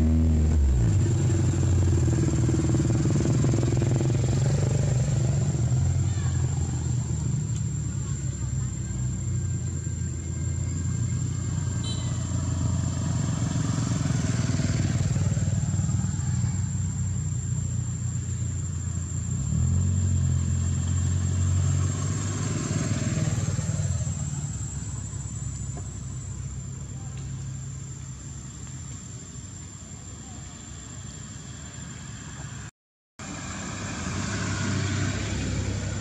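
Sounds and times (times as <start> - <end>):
traffic passing: 0.0 - 36.0
vehicle engines running: 0.0 - 36.0.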